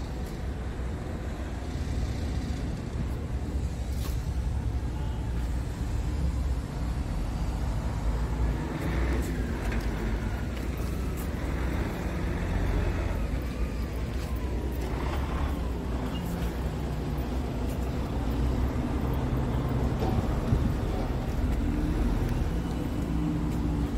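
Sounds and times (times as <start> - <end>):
diesel truck engine idling: 0.0 - 23.9.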